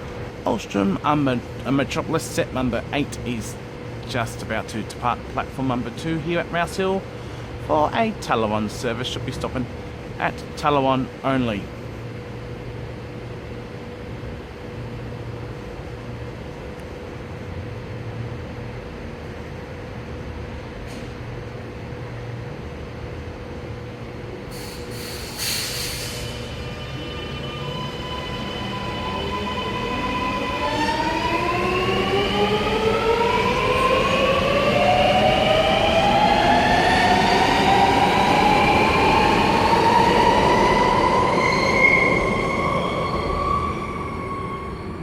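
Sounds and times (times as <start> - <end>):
metro train electric whine: 0.0 - 45.0.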